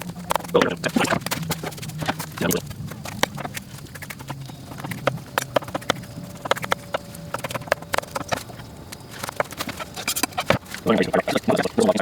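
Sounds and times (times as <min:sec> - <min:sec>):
sharp irregular clicks and knocks: 0:00.0 - 0:12.0.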